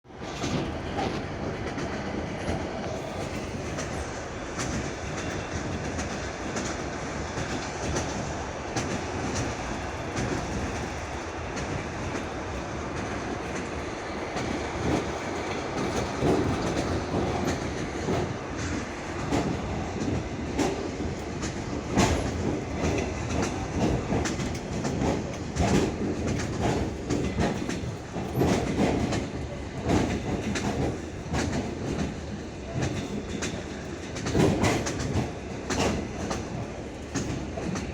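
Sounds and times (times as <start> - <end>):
train rumble: 0.1 - 37.9
train wheels clattering: 0.2 - 37.9.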